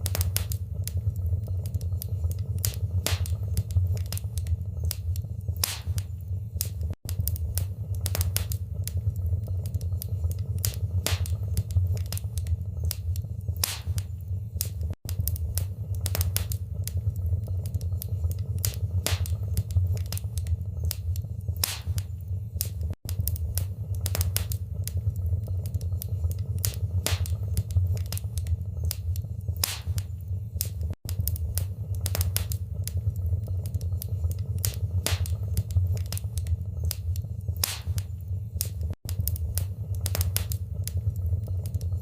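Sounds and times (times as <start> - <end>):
steady low rumble: 0.0 - 42.0
wood fire crackling and popping: 0.0 - 42.0.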